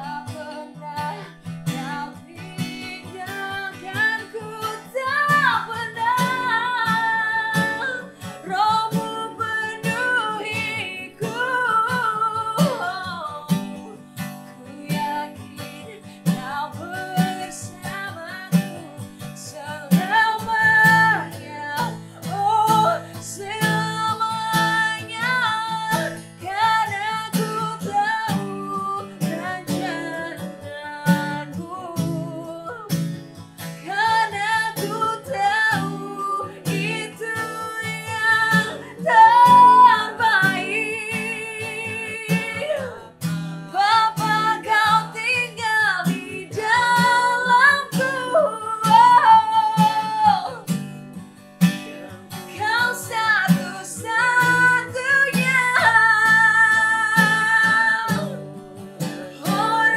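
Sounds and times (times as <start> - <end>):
person singing: 0.0 - 33.1, 33.8 - 50.7, 52.0 - 59.9
acoustic guitar strummed: 0.0 - 59.9.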